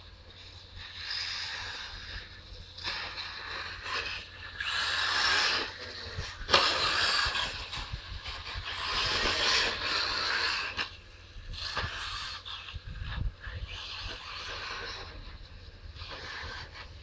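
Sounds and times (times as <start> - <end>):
rc buggy accelerating: 0.0 - 17.0.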